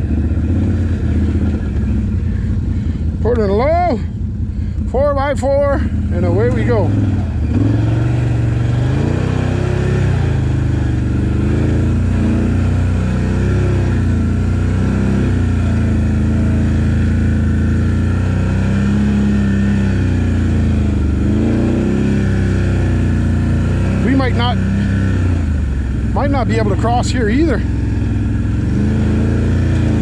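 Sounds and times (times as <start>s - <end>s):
atv engine revving: 0.0s - 30.0s.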